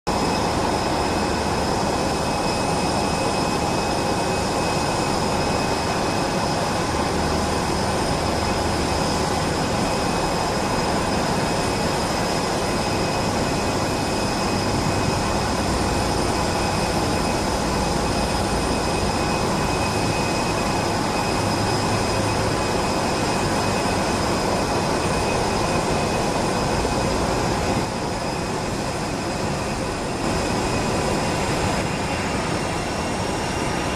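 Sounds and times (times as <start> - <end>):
high fan whines: 0.1 - 33.9
jet engine rush: 0.1 - 33.9.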